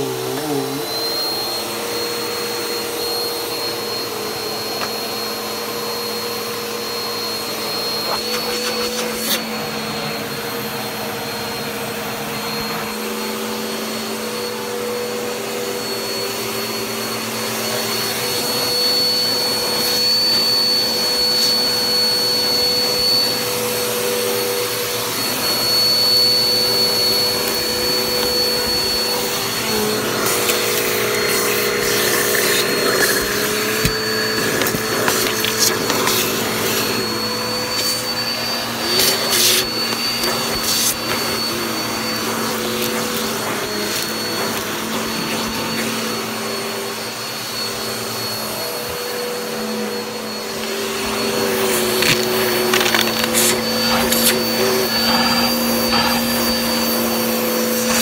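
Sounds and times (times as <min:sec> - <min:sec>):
vacuum cleaner whining: 0:00.0 - 0:58.0.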